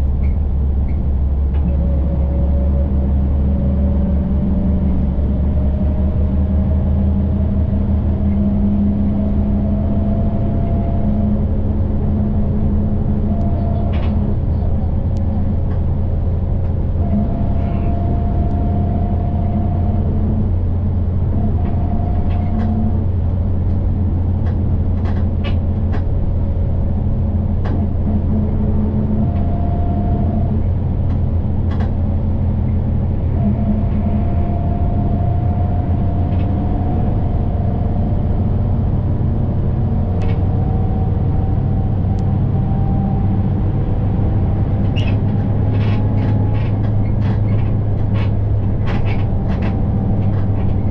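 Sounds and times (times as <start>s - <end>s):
bus engine and tyres droning: 0.0s - 50.9s.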